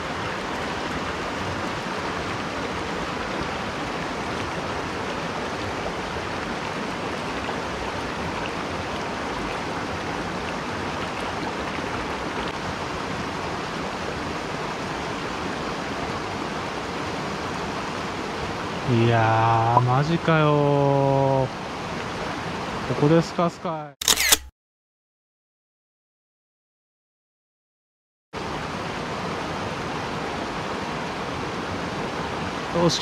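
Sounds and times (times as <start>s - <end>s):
stream rushing over rocks: 0.0s - 23.1s, 28.4s - 33.0s.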